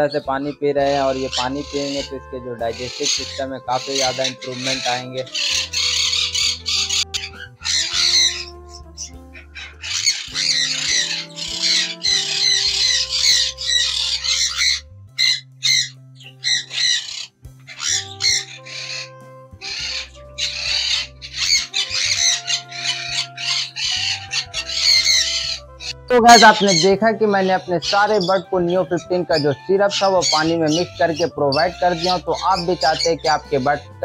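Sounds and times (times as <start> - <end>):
background music with low bass: 0.0 - 34.0
parrots chattering and squawking: 0.9 - 34.0.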